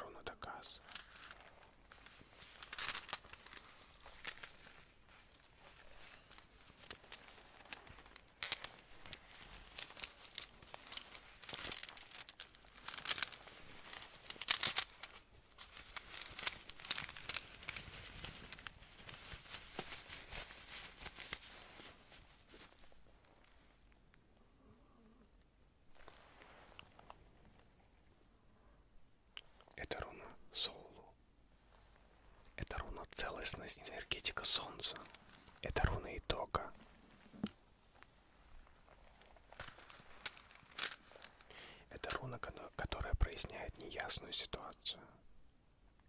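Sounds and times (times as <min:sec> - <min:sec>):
crinkling and crackling handling: 0:00.2 - 0:24.2, 0:25.9 - 0:28.1, 0:31.6 - 0:44.7.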